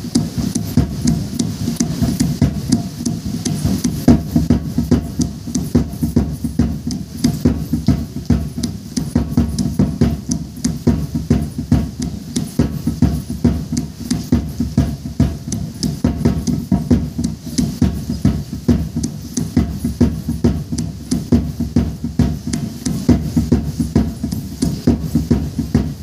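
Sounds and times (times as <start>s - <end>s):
drum beaten in steady rhythm: 0.0s - 26.0s.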